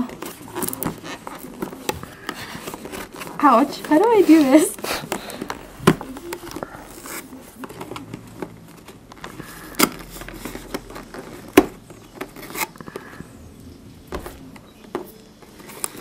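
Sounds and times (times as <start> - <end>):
cardboard box scratching and rustling: 0.0 - 13.3.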